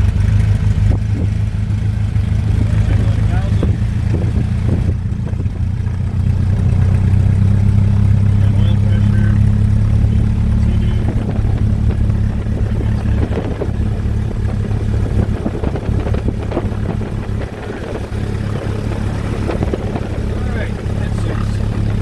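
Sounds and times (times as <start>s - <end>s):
aircraft engine idling: 0.0s - 22.0s.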